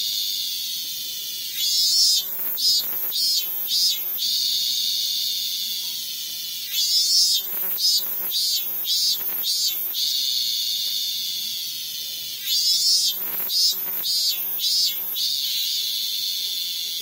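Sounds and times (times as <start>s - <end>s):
cicada buzzing: 0.0s - 17.0s.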